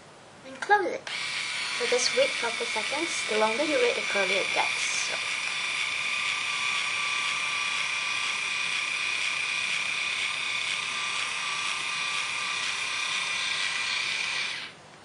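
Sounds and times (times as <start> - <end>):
small electric motor whining: 1.1 - 14.8.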